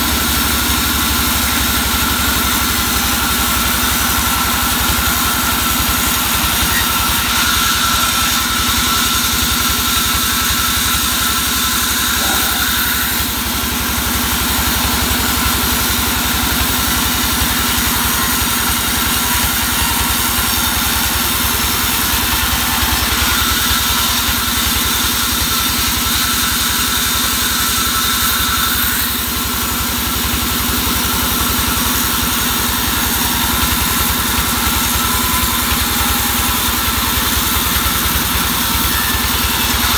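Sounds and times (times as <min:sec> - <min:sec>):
band saw engine running: 0:00.0 - 0:39.9
steady saw whine: 0:00.0 - 0:39.9.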